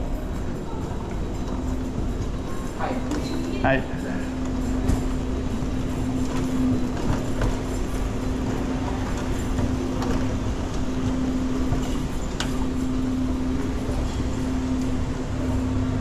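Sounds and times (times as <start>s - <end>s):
constant hum: 0.0s - 16.0s
wheelchair wheels rumbling: 0.4s - 16.0s.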